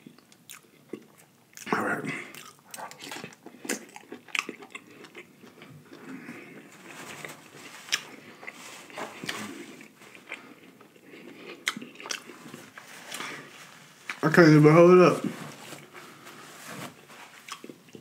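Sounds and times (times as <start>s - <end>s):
person chewing: 0.0s - 14.2s, 17.4s - 18.0s.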